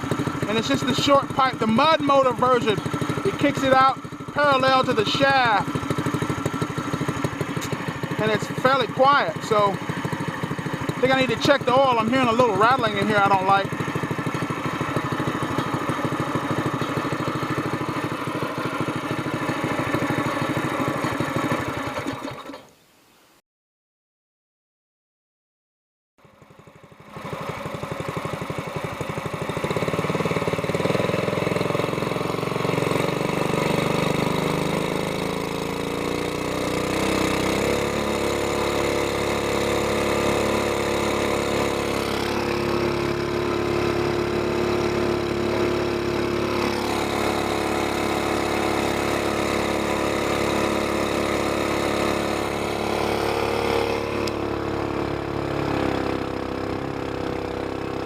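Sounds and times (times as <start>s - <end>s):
small engine running: 0.0s - 22.7s, 26.2s - 58.0s.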